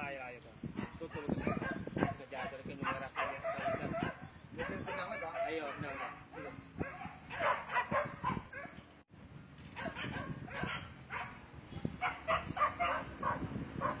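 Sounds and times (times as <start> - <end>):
dogs barking and yelping: 0.8 - 8.9, 9.7 - 14.0.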